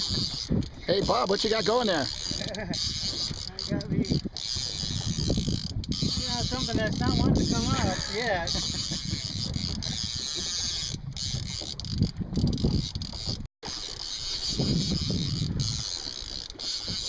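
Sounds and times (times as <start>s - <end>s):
wind buffeting microphone: 0.0s - 13.5s, 14.4s - 17.0s.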